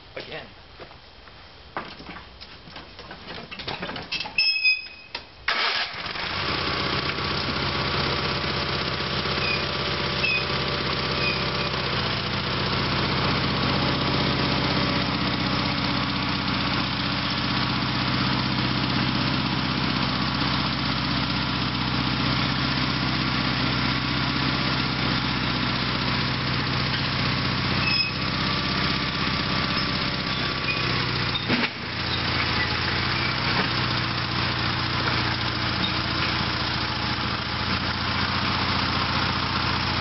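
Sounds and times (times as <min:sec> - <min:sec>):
tractor engine cranking and running: 0:02.0 - 0:40.0.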